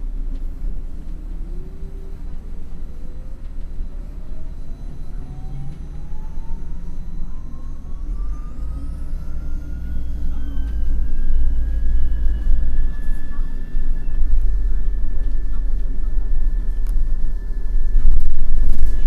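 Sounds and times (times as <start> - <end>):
bus accelerating with whine: 0.0 - 19.0.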